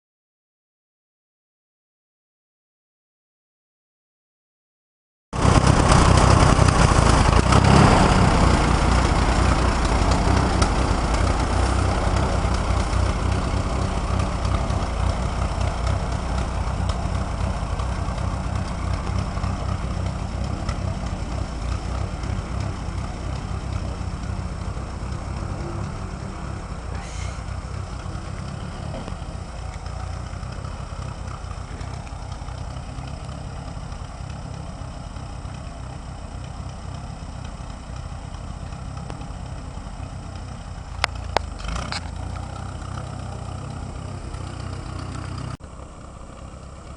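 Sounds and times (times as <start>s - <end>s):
tractor engine running: 5.4s - 46.9s.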